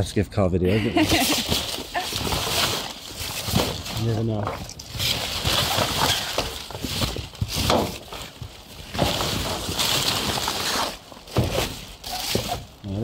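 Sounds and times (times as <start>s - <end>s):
plastic bags and cardboard rustling: 0.9s - 13.0s.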